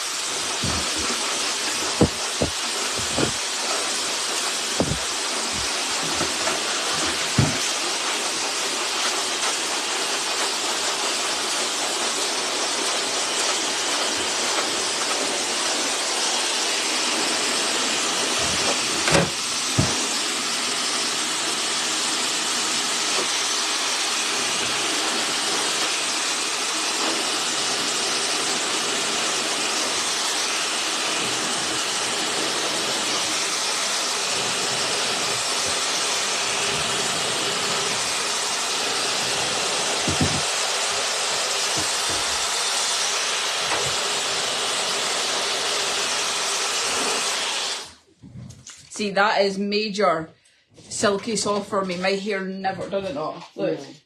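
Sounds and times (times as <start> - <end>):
hair dryer blowing: 0.0 - 48.0.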